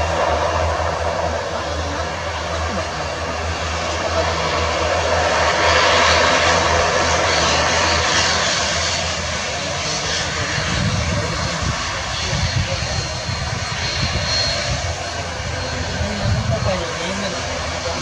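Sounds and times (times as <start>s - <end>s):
airliner propeller drone: 0.0s - 18.0s.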